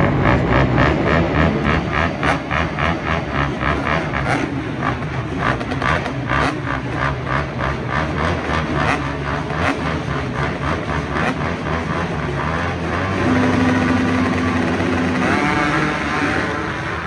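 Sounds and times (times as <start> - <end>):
dirt bike and atv engines running: 0.0 - 17.0.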